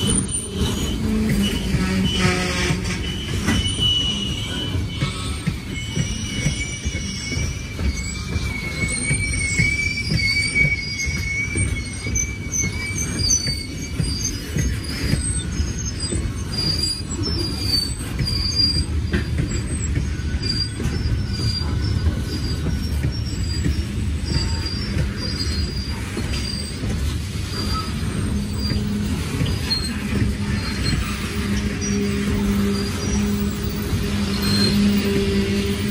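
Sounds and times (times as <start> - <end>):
steel wheels rumbling on rail: 0.0 - 35.9
wheel squeal: 0.0 - 35.9.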